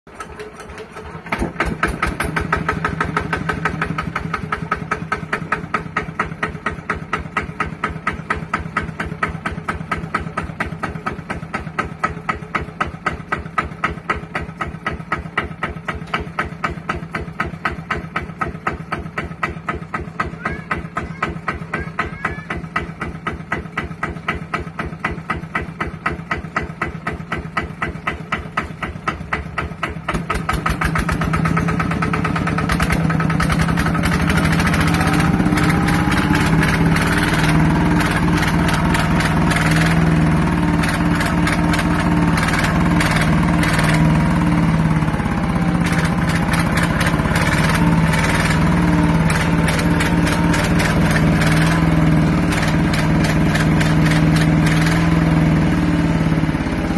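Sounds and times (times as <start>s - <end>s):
diesel engine idling and revving: 0.1s - 56.9s.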